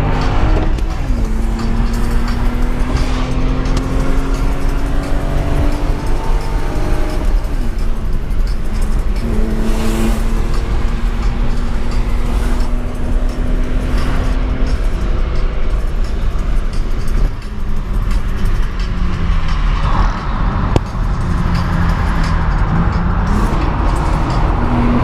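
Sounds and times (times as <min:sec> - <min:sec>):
car engine accelerating in tunnel: 0:00.0 - 0:25.0.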